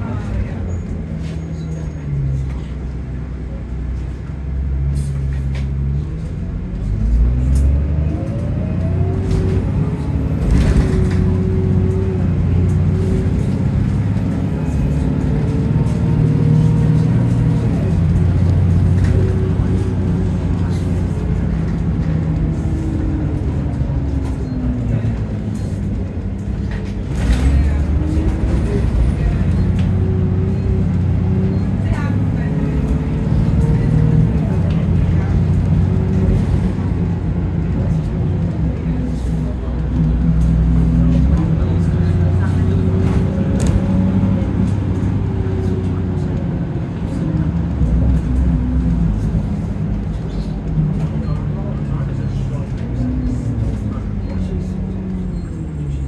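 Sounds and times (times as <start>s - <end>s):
bus diesel engine accelerating: 0.0s - 56.0s
knocks and rattles of bus body: 9.2s - 32.3s, 33.1s - 55.5s.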